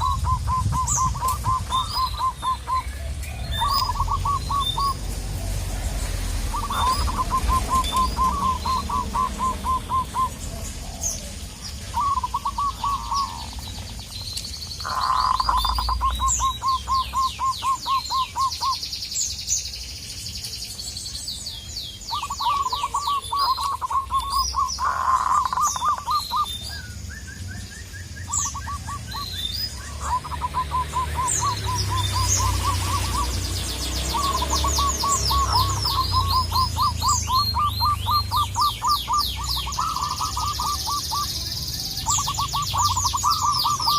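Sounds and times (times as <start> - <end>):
doves cooing in staccato notes: 0.0 - 14.0, 14.8 - 18.8, 22.1 - 26.8, 28.0 - 43.9
small birds chirping: 0.0 - 43.9.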